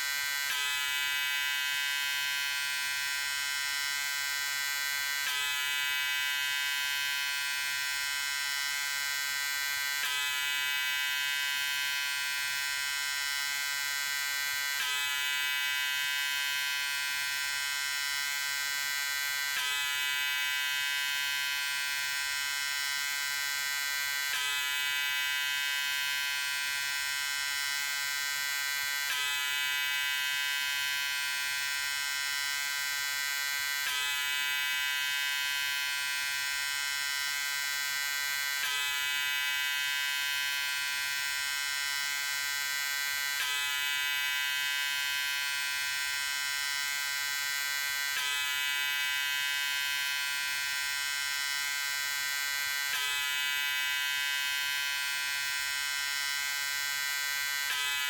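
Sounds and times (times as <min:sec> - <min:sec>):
electric shaver buzzing: 0:00.0 - 0:58.0.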